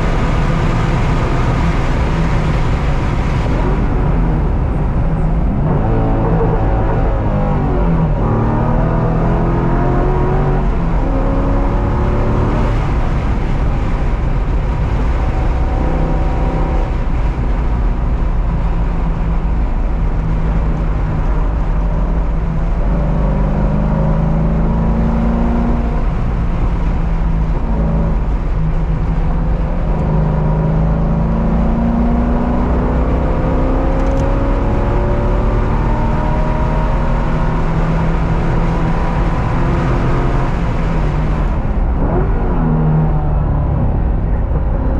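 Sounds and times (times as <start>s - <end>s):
car engine accelerating hard: 0.0s - 44.9s
road and wind noise: 0.0s - 44.9s.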